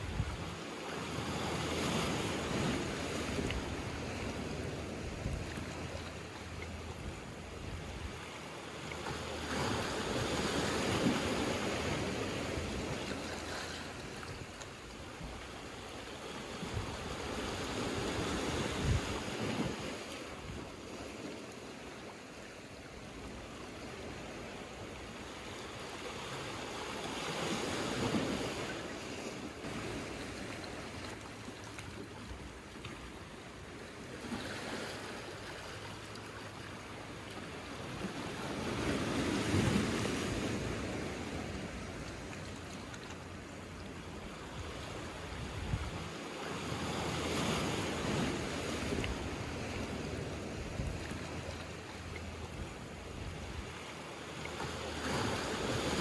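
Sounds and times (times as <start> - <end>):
waves washing over rocks and pebbles: 0.0 - 56.0.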